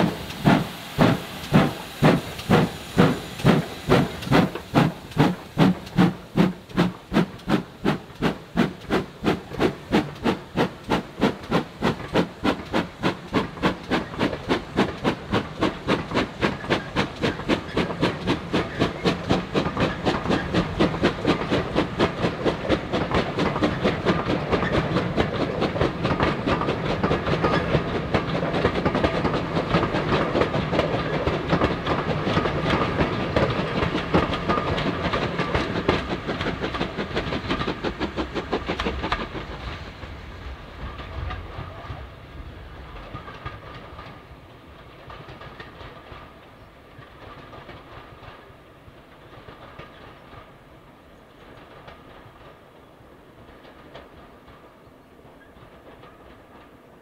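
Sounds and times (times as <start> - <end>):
steam locomotive exhaust beats: 0.0 - 57.0
train clattering on rails: 0.0 - 57.0.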